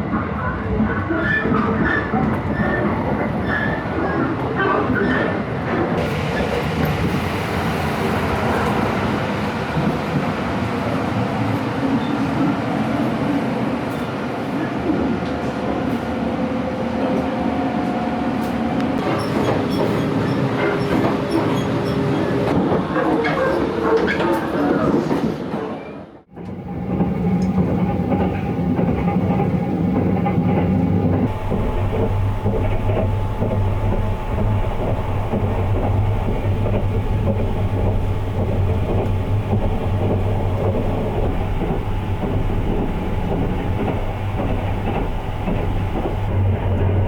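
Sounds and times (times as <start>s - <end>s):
train rumbling: 0.0s - 47.0s.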